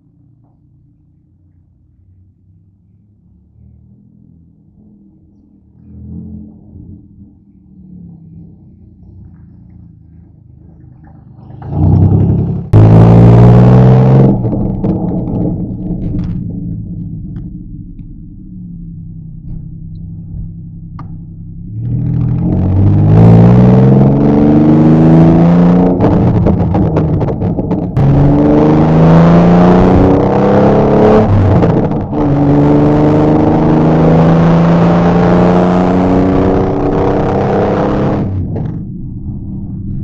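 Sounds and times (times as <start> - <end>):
car engine accelerating through gears: 2.1 - 40.0.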